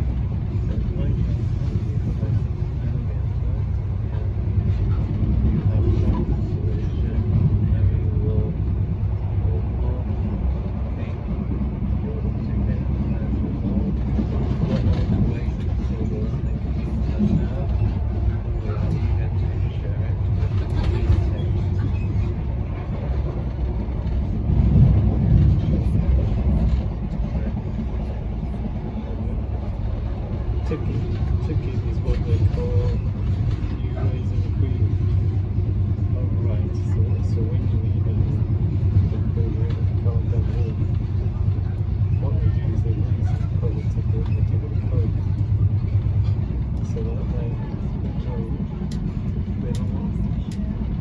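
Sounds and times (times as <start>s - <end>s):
faint voices: 0.0s - 51.0s
train wheels rumbling on track: 0.0s - 51.0s.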